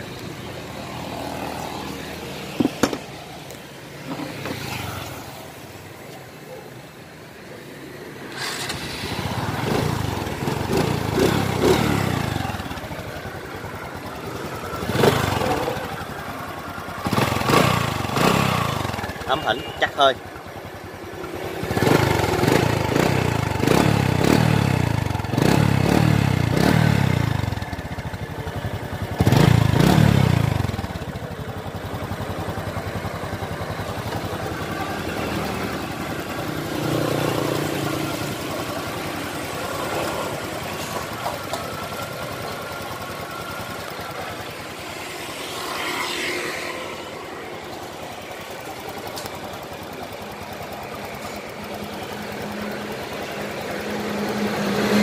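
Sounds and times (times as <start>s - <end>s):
motorcycle engine revving: 0.0s - 5.8s, 8.2s - 55.0s
motorcycle engine idling: 0.0s - 55.0s.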